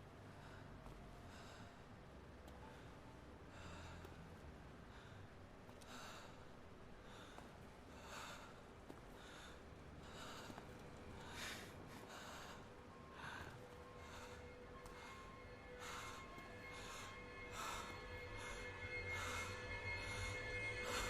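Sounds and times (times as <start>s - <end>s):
faint breaths near microphone: 0.0s - 21.0s.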